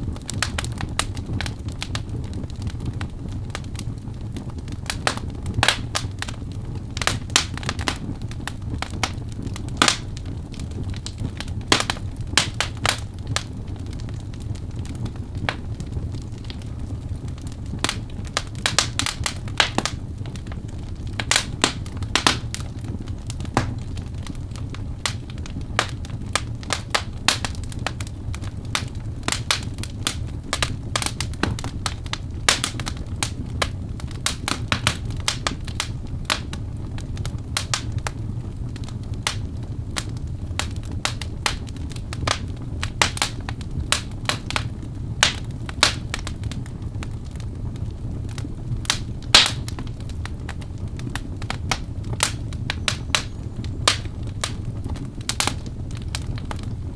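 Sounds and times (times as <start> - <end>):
flames rushing: 0.0 - 56.9
logs crackling and popping: 0.0 - 56.9.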